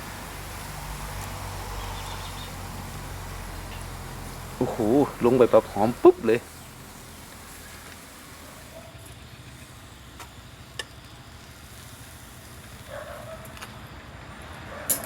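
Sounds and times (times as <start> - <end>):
faint steady sizzle: 0.0 - 14.7
sharp pops and crackles: 0.3 - 15.0.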